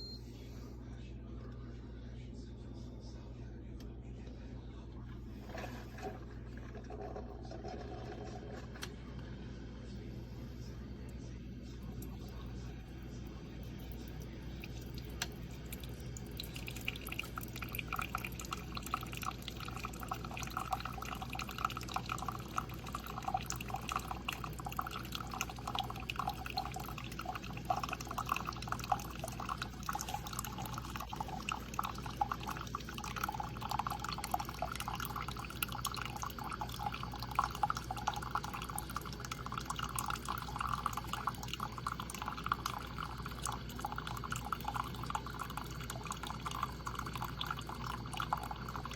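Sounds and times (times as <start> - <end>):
coffee maker low hum: 0.0 - 48.9
coffee trickling into a cup: 5.2 - 9.4, 11.0 - 48.9.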